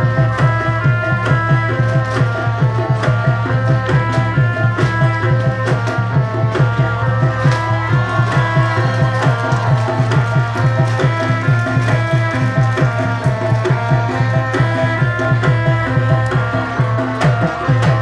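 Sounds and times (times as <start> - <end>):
fast hand-drum strokes: 0.0 - 18.0.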